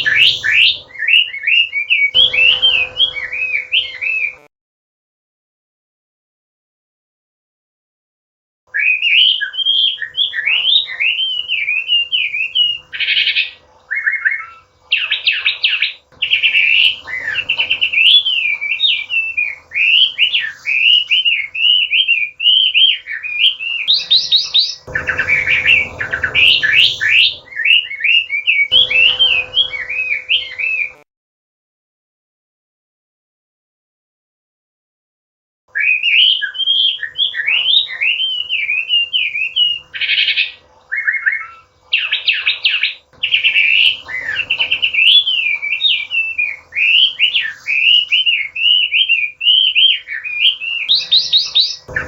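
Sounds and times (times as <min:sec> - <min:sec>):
bird singing whistled phrases: 0:00.0 - 0:04.5, 0:08.7 - 0:31.0, 0:35.7 - 0:52.0.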